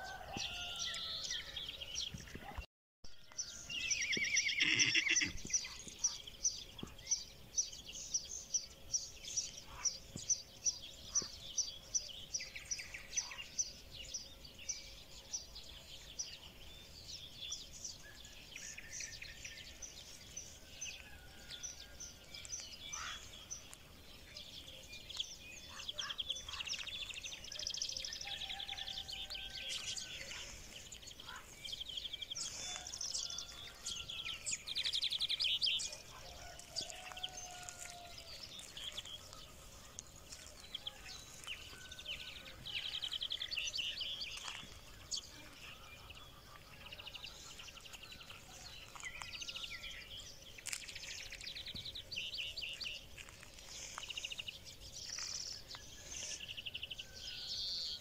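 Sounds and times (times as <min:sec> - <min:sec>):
small birds chirping and trilling: 0:00.0 - 0:58.0.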